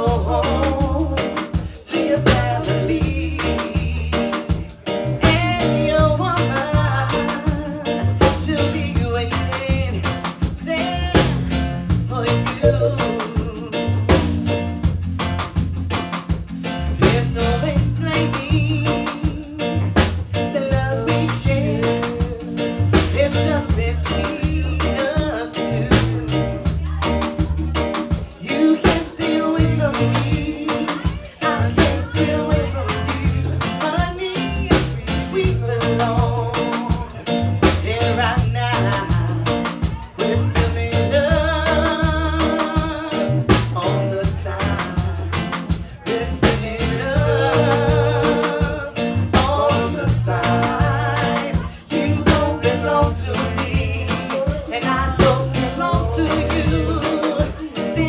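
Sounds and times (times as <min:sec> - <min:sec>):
woman singing: 0:00.0 - 0:14.4, 0:17.0 - 0:27.6, 0:28.3 - 0:58.0
live reggae band playing: 0:00.0 - 0:58.0.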